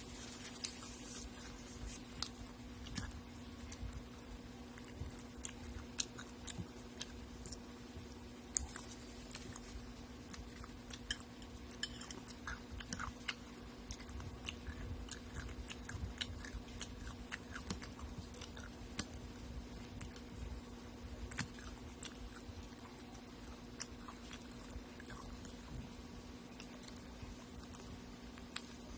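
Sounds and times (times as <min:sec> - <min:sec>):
person chewing and crunching food: 0:00.0 - 0:28.9
steady low hum: 0:00.0 - 0:28.9.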